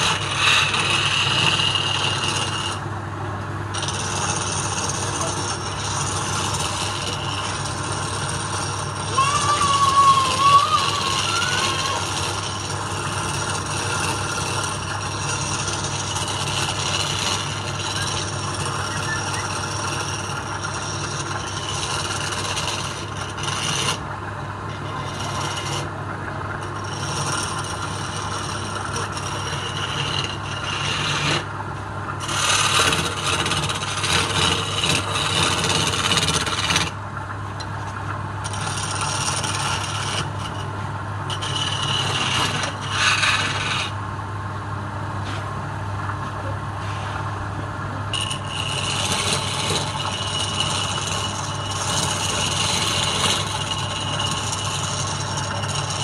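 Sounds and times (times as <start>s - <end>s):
scraper rasping on spinning wood: 0.0s - 2.9s, 3.7s - 31.5s, 32.2s - 37.0s, 37.6s - 44.0s, 48.1s - 56.0s
lathe motor hum: 0.0s - 56.0s.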